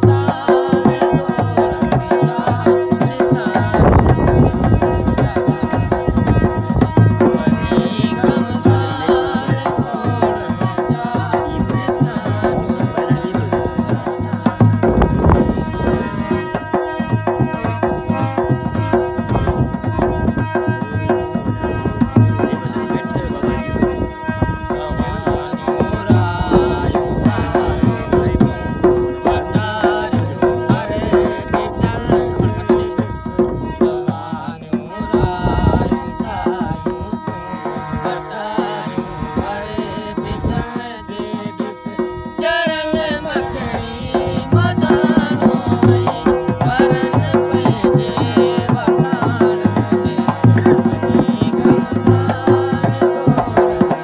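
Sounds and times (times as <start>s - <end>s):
barrel drum rhythm: 0.0s - 54.0s
harmonium chords: 0.0s - 54.0s
man singing: 0.0s - 54.0s.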